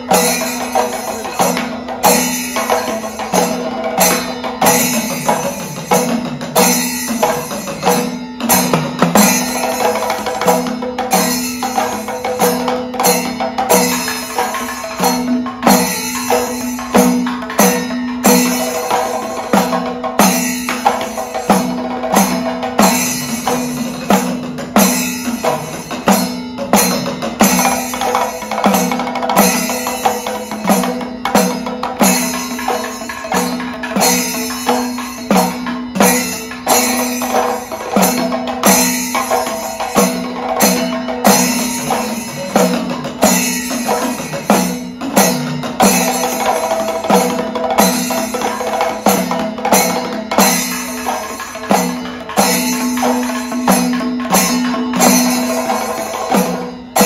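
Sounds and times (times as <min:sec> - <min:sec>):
hand drums playing rhythm: 0:00.0 - 0:57.0.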